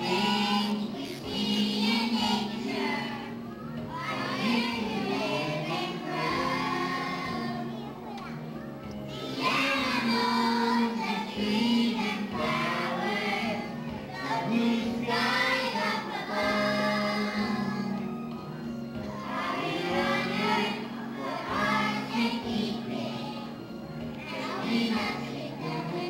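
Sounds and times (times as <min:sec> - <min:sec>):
children singing together: 0:00.0 - 0:07.9, 0:08.9 - 0:26.0.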